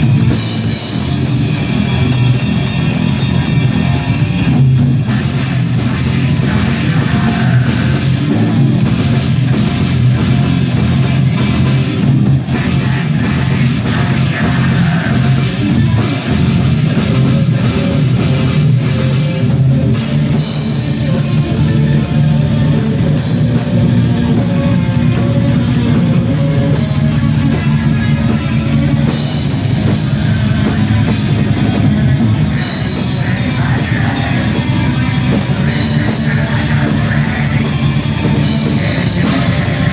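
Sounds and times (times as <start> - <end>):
black metal band playing: 0.0 - 39.9.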